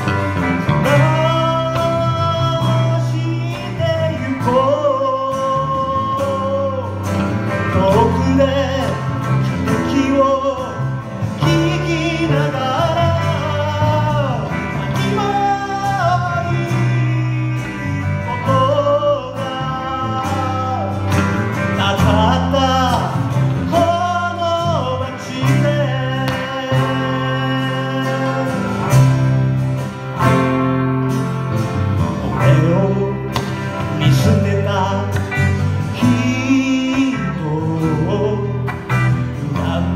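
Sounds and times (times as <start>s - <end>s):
man singing: 0.0s - 29.8s, 31.6s - 39.9s
acoustic guitar: 0.0s - 39.9s
bass guitar: 0.0s - 39.9s
electric guitar: 0.0s - 39.9s
piano: 0.0s - 39.9s.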